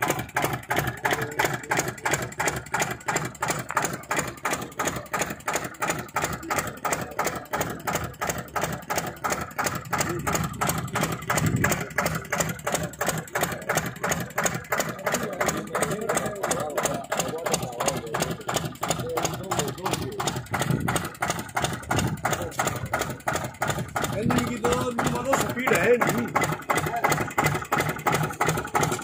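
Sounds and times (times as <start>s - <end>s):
diesel engine thumping steadily: 0.0s - 29.0s.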